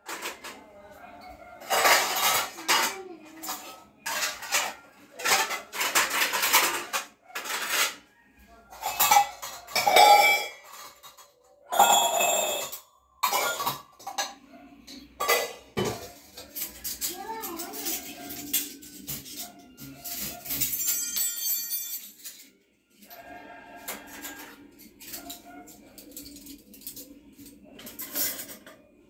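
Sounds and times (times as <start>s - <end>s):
metal pots and plates clattering: 0.0s - 8.1s, 8.7s - 23.2s, 23.8s - 29.0s.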